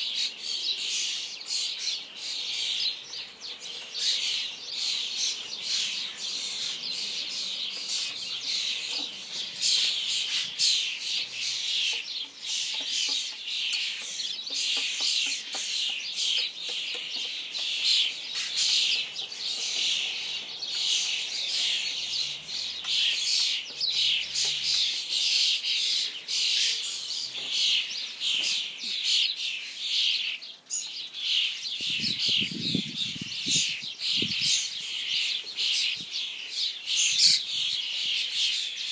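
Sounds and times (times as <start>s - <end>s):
starlings chirping: 0.0s - 38.9s.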